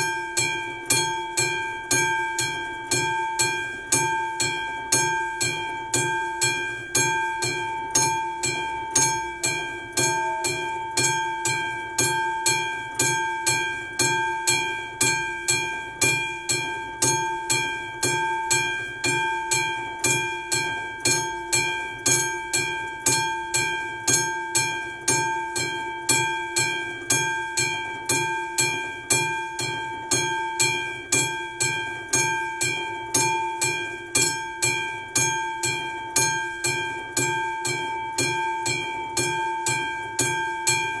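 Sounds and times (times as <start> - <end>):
level crossing warning bell: 0.0 - 41.0.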